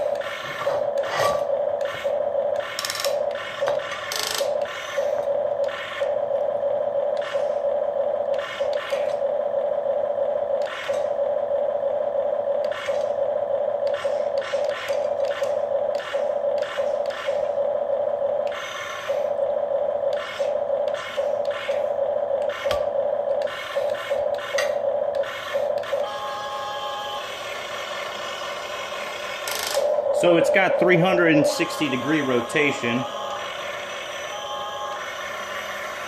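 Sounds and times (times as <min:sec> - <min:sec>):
gear motors whirring: 0:00.0 - 0:36.0
steady motor whine: 0:00.0 - 0:36.0.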